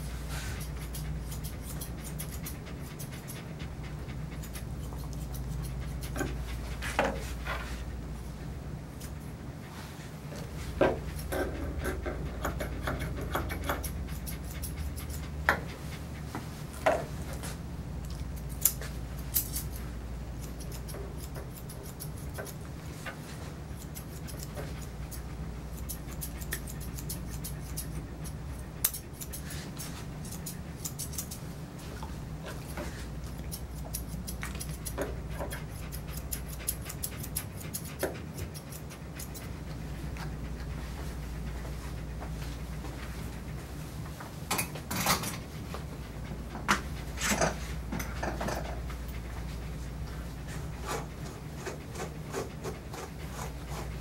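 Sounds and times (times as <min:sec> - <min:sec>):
low steady hum: 0:00.0 - 0:54.0
grooming shears snipping: 0:00.3 - 0:07.9, 0:08.9 - 0:09.3, 0:10.3 - 0:43.3, 0:50.1 - 0:54.0.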